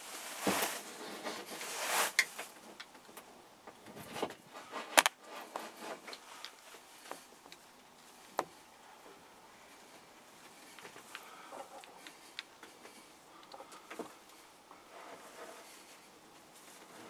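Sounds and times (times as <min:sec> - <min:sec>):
close handling rustling: 0:00.0 - 0:17.0.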